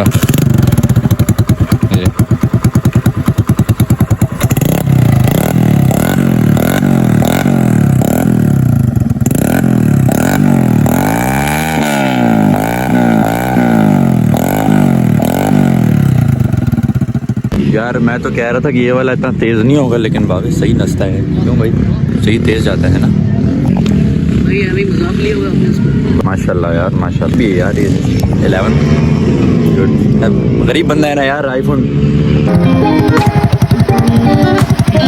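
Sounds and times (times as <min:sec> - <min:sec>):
loud motorcycle engine revving: 0:00.0 - 0:18.6, 0:20.6 - 0:26.8, 0:27.4 - 0:35.0.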